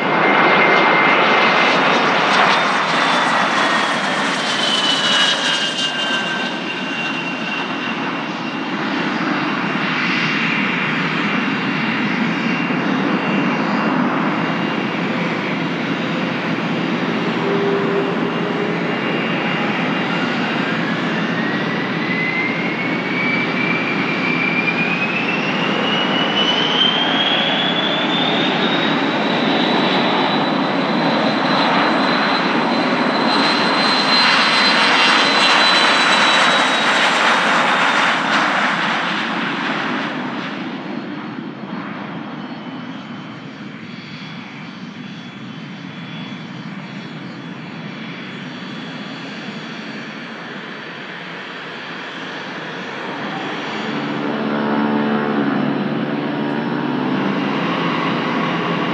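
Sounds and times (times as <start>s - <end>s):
jet engines spooling up: 0.0s - 58.9s
jet roar: 0.0s - 58.9s.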